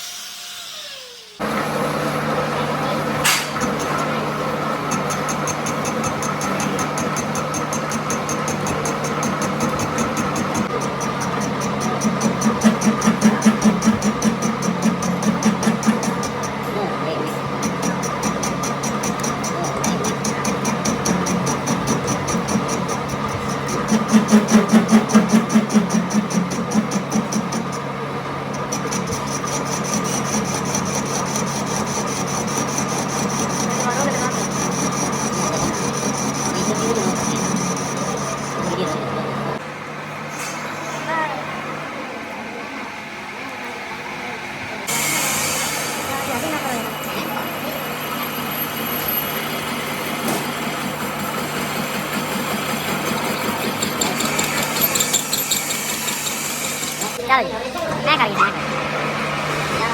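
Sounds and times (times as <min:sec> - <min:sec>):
workshop machine humming and ticking: 0:00.0 - 0:59.9.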